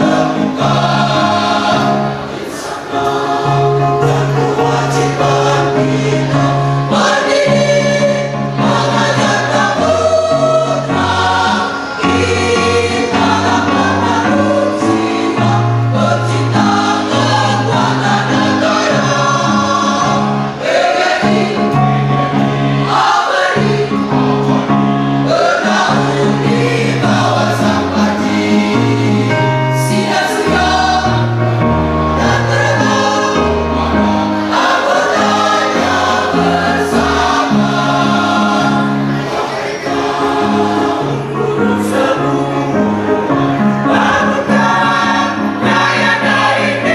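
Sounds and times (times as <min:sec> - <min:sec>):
mixed choir singing in parts: 0:00.0 - 0:46.9.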